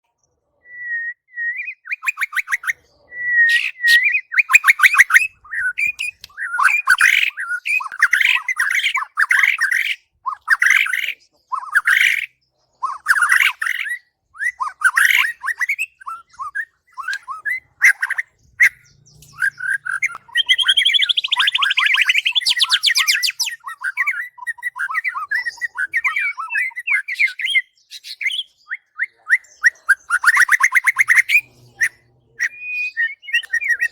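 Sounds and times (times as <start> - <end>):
bird whistles and chattering trills: 0.5 - 33.9.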